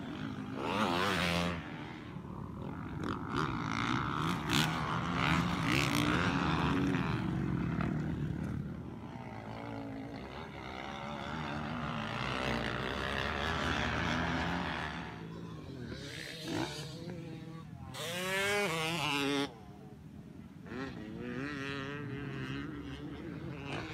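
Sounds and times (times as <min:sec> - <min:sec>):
dirt bike engines revving: 0:00.0 - 0:23.9.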